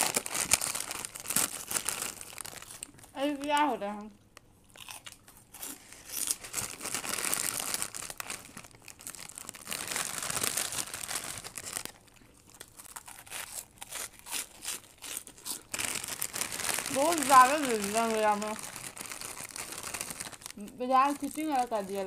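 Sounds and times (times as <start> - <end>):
plastic chip packets crinkling: 0.0 - 3.8, 4.4 - 22.0.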